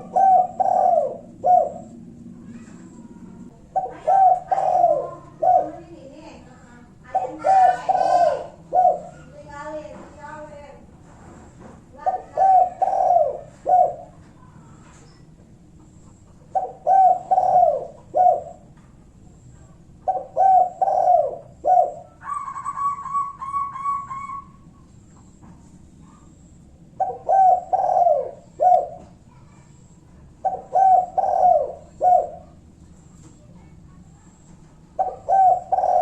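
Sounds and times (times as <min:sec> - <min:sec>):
dove cooing: 0:00.0 - 0:09.8, 0:12.0 - 0:15.0, 0:15.8 - 0:18.8, 0:20.0 - 0:25.4, 0:26.0 - 0:32.7, 0:34.2 - 0:36.0.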